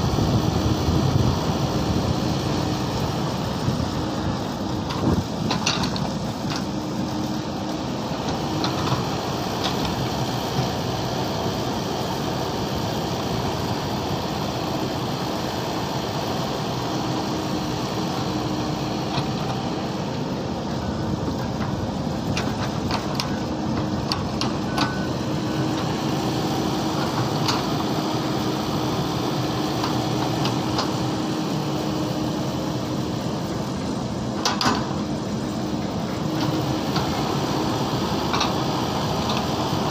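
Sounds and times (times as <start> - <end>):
mini excavator running: 0.0 - 39.9.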